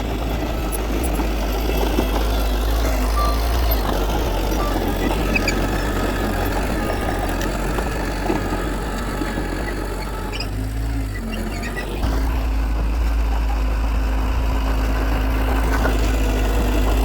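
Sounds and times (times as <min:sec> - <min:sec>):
heavy diesel engines rumbling: 0:00.0 - 0:17.0.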